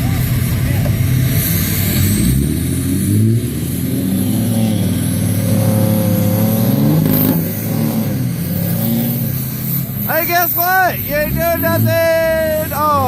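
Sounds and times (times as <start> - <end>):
truck engine revving hard: 0.0 - 13.0.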